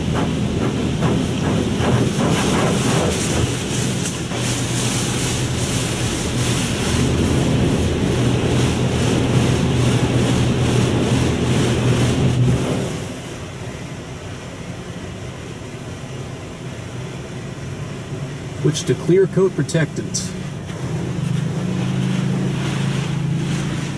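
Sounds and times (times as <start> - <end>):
car wash machine hum: 0.0 - 23.9
car wash water spray hissing: 0.0 - 23.9.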